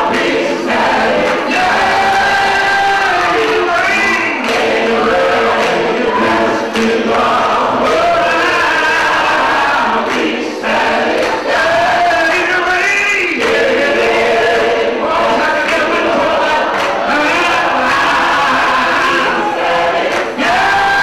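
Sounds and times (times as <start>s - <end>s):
gospel choir singing: 0.0s - 21.0s.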